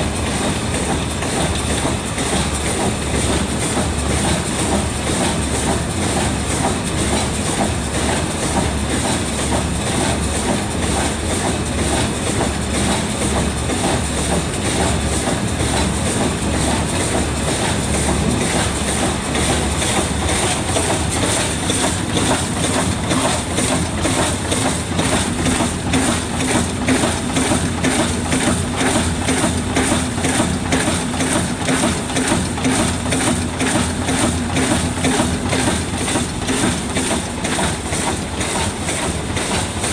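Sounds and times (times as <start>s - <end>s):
packing machine clatter: 0.0s - 39.9s.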